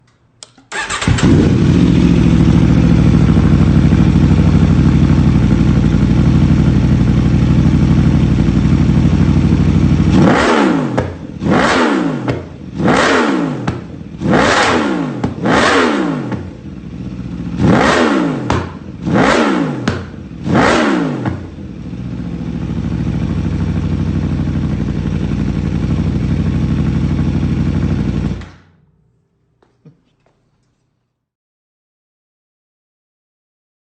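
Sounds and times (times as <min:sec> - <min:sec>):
motorcycle engine revving: 0:00.7 - 0:28.9.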